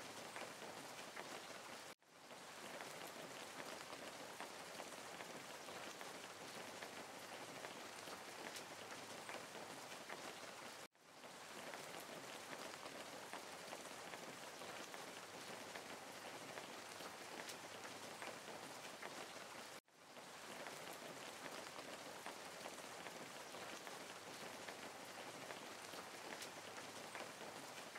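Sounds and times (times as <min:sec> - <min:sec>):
rain-like hiss with crackles: 0:00.0 - 0:27.9.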